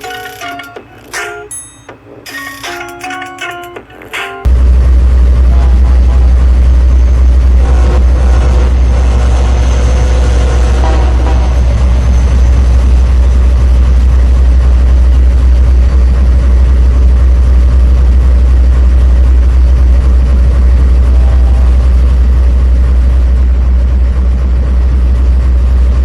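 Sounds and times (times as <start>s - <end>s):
train passing by rumbling: 3.6s - 26.0s.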